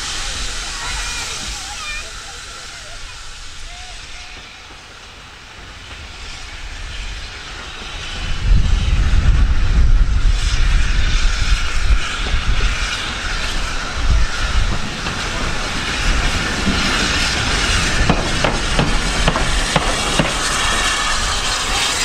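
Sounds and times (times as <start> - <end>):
steam train rumbling and hissing: 0.0 - 22.0.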